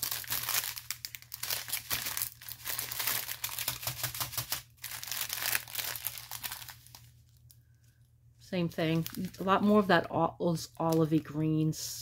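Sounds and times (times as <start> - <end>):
plastic packaging crinkling: 0.0 - 8.0, 8.7 - 9.9, 10.7 - 11.4.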